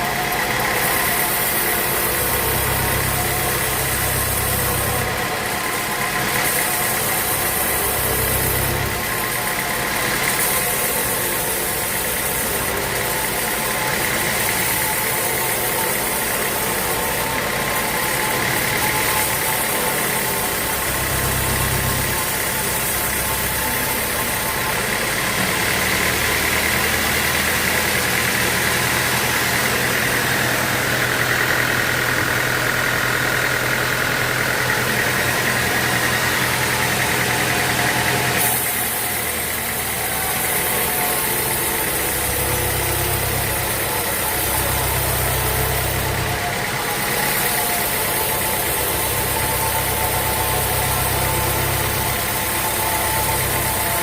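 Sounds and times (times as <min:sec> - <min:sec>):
high saw whine: 0:00.0 - 0:54.0
motor hum: 0:00.0 - 0:54.0.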